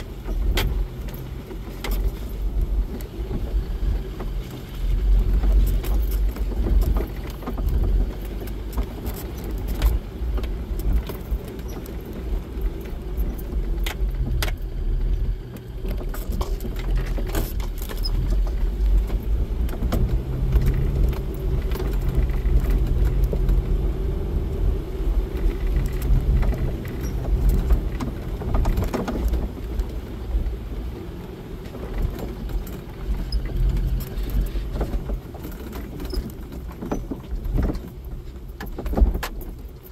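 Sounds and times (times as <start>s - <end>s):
engine and road hum: 0.0s - 39.9s
vehicle rattles and clicks: 0.0s - 39.9s.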